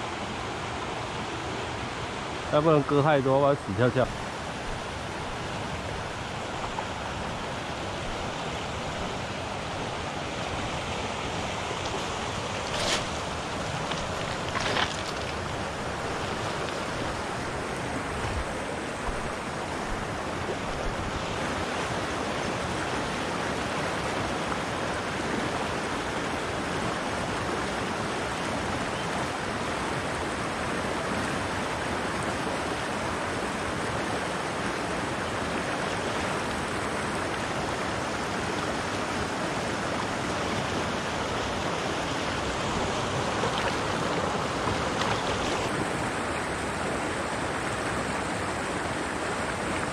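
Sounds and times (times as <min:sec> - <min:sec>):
stream flowing over rocks: 0:00.0 - 0:49.9.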